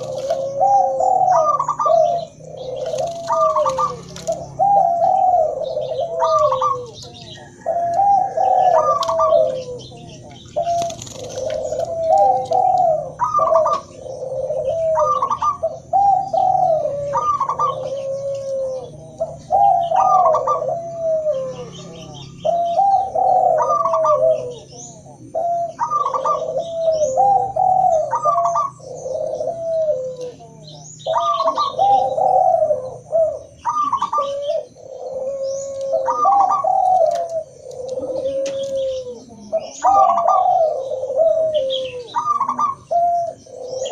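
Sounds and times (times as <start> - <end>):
doves cooing: 0.0 - 43.9.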